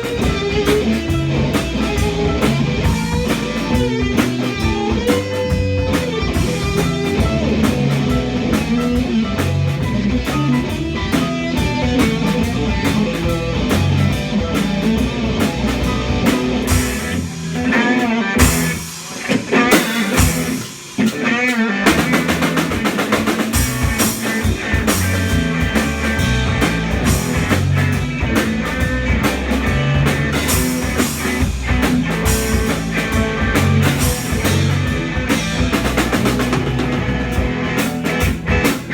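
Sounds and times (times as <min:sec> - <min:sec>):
bending electric guitar line: 0:00.0 - 0:38.9
rock band playing live: 0:00.0 - 0:38.9.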